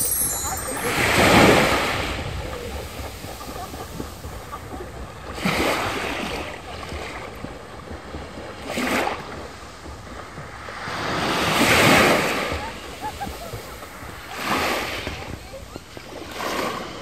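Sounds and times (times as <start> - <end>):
small waves washing onto sand: 0.6 - 17.0.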